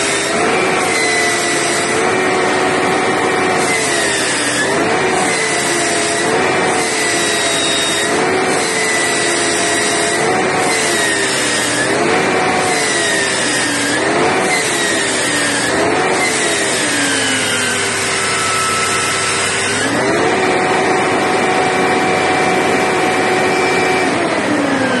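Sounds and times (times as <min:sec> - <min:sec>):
drivetrain whine: 0:00.0 - 0:25.0
engine revving: 0:00.0 - 0:25.0.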